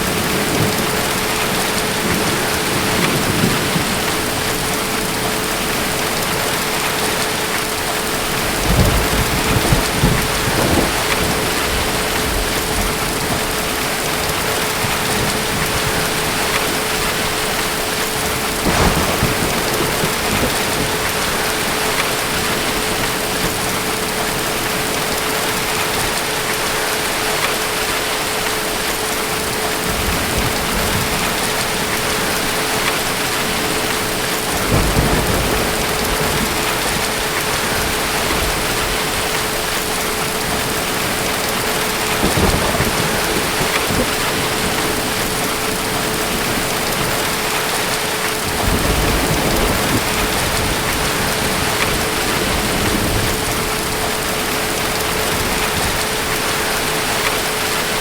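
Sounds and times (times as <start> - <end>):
distant thunder rolling: 0.0 - 7.5, 8.2 - 26.1, 29.8 - 58.0
heavy rain: 0.0 - 58.0.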